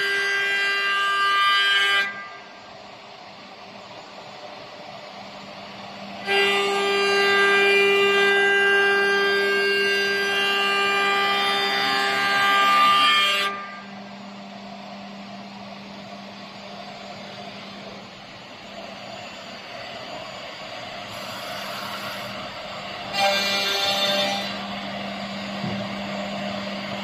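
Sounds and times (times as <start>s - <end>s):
machine hum: 0.0s - 27.0s
router spindle whining: 0.0s - 27.0s.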